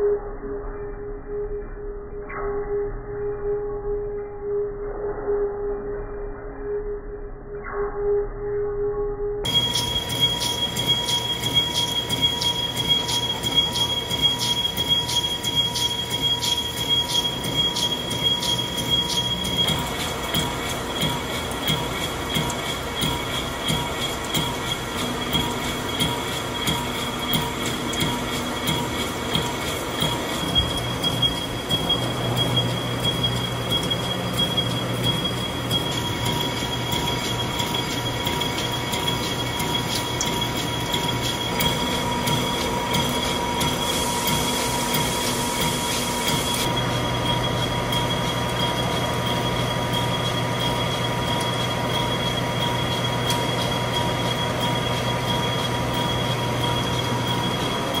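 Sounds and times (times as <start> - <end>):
high-pitched boring tool squeal: 9.4 - 58.0
low machine hum: 9.4 - 58.0.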